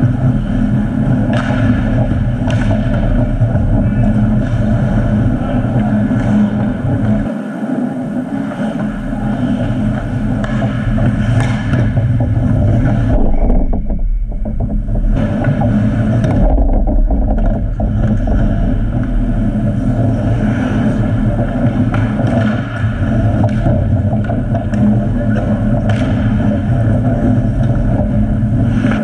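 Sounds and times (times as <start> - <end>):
clatter of sticks skates and puck: 0.0 - 13.9, 15.1 - 29.0
low rumble in ice rink: 0.0 - 29.0.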